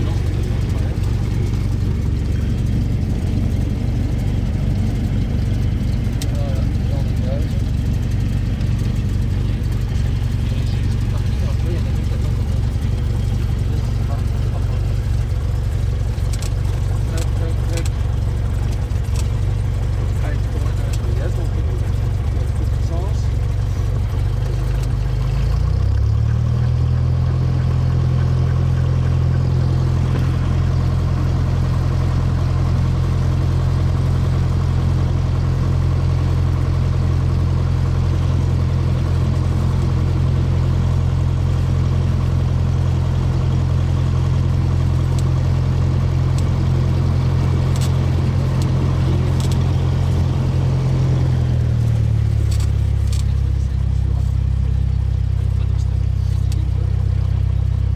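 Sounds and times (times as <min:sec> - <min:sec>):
propeller plane engine running: 0:00.0 - 0:57.9.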